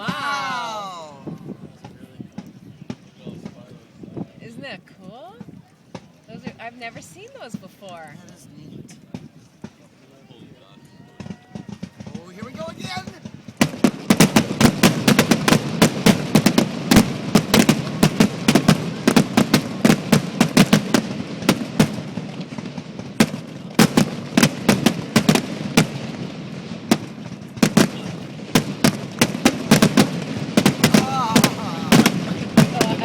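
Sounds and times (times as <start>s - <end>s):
fireworks bangs and crackles: 1.2s - 10.1s, 11.1s - 33.0s.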